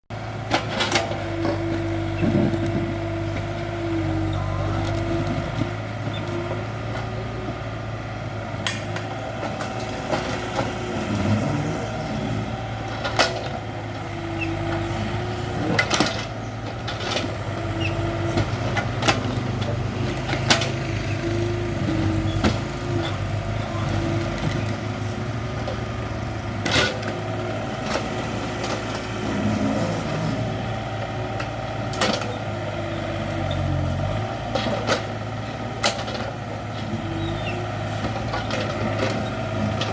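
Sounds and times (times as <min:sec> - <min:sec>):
excavator diesel engine: 0:00.1 - 0:39.9.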